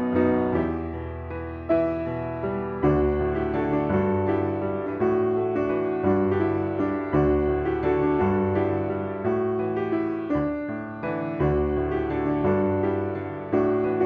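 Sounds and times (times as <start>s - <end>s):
instrumental piano music: 0.0s - 14.0s.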